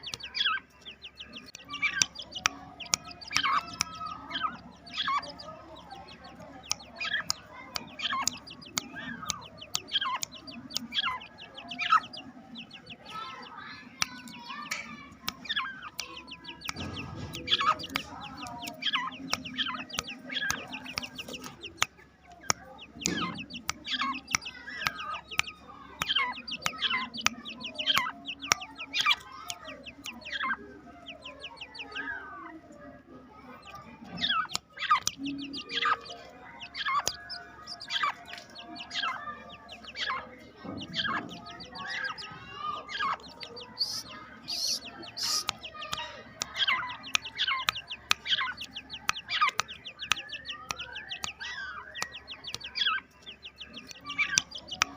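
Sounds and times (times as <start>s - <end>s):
partridge chicks chirping: 0.0s - 54.9s.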